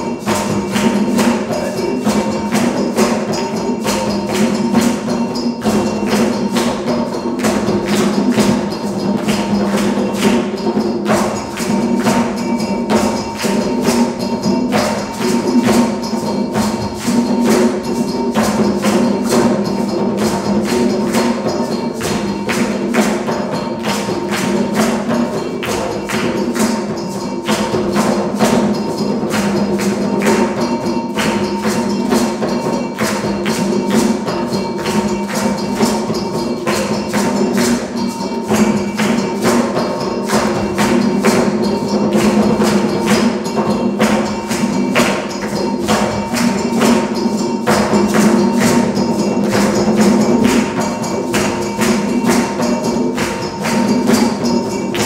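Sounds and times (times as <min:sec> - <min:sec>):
djembe hand drums playing: 0:00.0 - 0:55.0.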